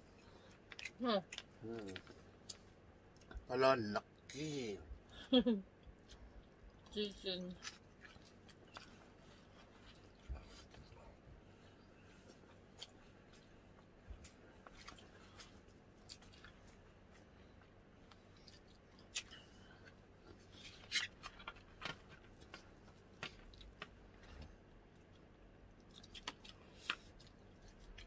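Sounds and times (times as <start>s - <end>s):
chewing crunches and clicks: 0.2s - 3.5s, 5.8s - 11.0s, 12.2s - 17.4s, 18.0s - 28.0s.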